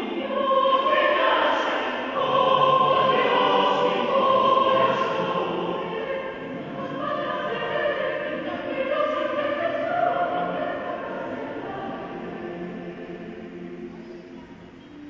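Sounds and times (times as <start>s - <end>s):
mixed choir singing chords: 0.0s - 15.0s.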